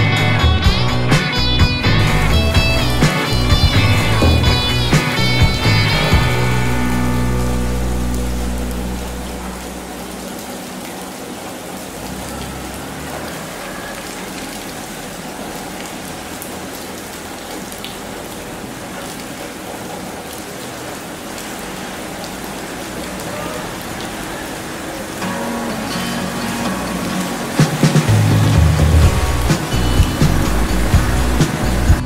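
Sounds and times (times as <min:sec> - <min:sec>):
steady rain hiss: 0:01.4 - 0:32.0.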